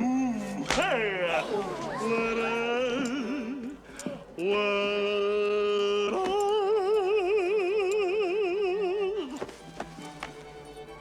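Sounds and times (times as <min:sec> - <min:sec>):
man singing operatic notes: 0:00.0 - 0:09.6.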